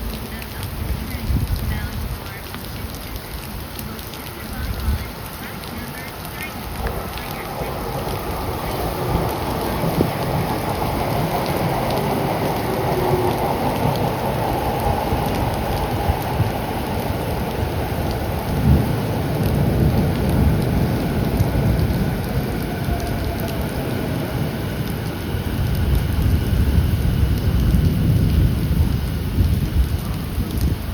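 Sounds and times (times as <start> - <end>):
heavy rain falling: 0.0 - 30.9
thunder rumbling: 0.0 - 30.9.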